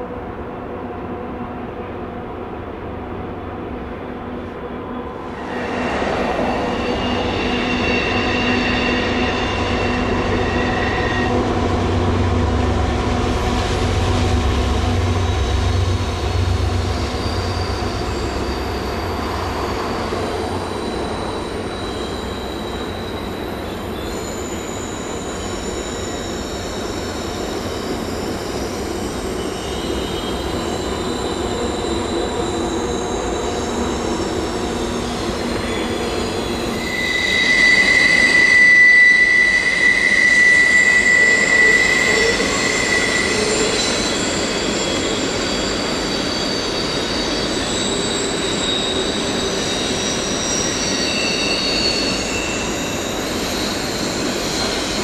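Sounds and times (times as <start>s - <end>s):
freight train rumble: 0.0s - 55.0s
high-pitched wheel squeal: 4.8s - 13.8s, 14.8s - 55.0s.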